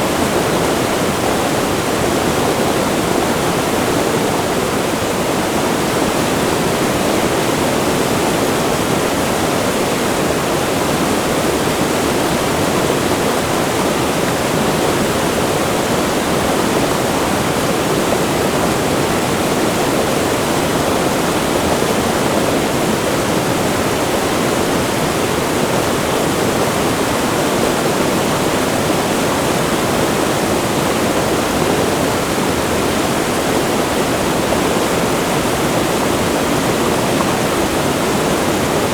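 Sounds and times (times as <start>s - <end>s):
river rushing near waterfall: 0.0s - 38.9s.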